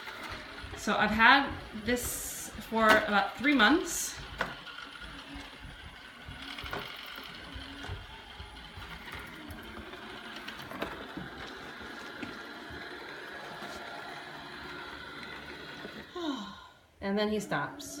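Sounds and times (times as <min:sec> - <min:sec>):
robot vacuum whirring: 0:00.0 - 0:16.2.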